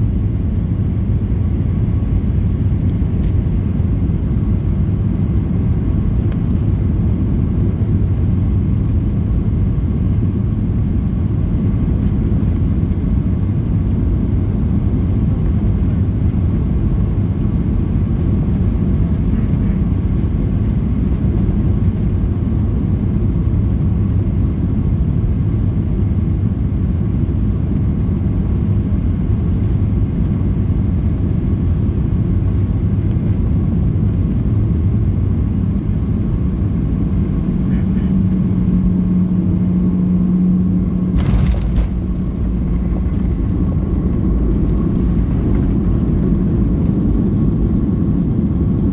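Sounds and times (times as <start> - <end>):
airplane cabin engine and airflow rush: 0.0 - 48.9.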